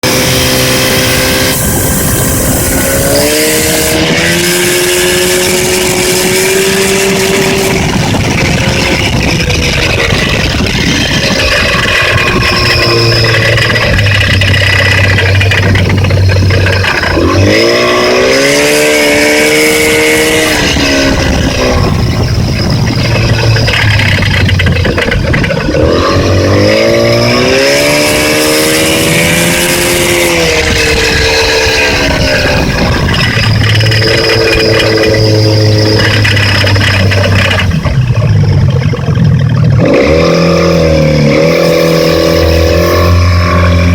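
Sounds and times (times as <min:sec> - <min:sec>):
motor knocking: 0:00.0 - 0:43.9
outboard motor running: 0:00.0 - 0:43.9.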